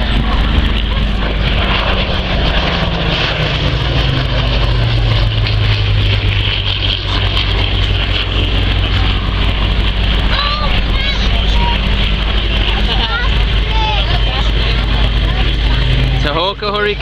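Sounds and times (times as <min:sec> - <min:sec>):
propeller aircraft droning overhead: 0:00.0 - 0:17.0.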